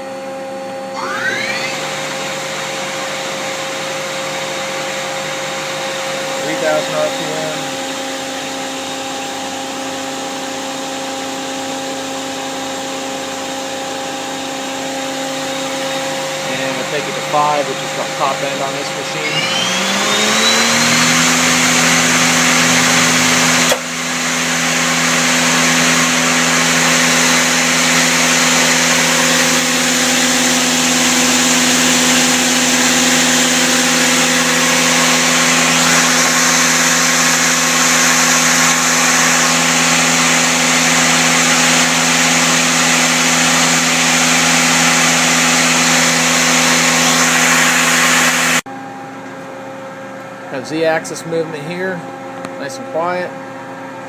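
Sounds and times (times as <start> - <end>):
lathe spindle whine: 0.8 - 48.6.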